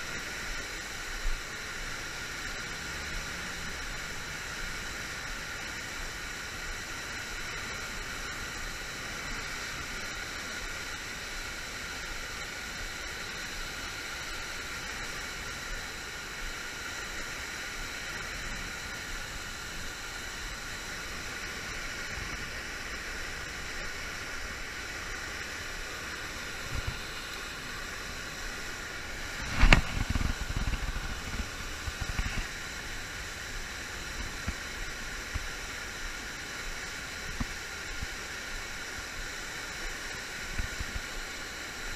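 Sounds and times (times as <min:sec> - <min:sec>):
river water rushing over dam: 0:00.0 - 0:41.9.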